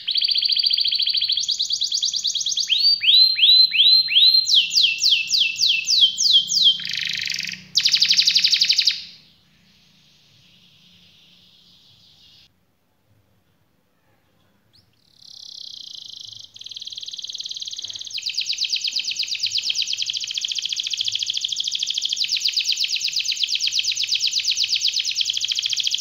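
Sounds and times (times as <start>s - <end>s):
canary singing trills: 0.0s - 12.5s, 14.7s - 26.0s.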